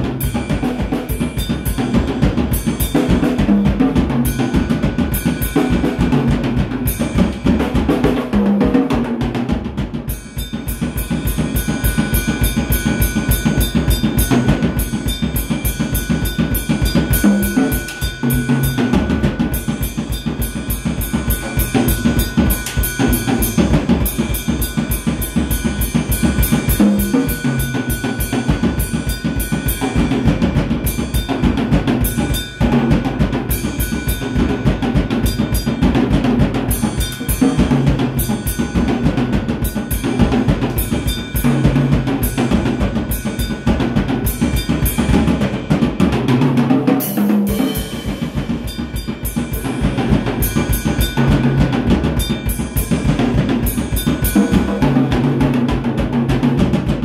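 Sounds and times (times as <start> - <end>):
fast acoustic drum kit: 0.0 - 57.0.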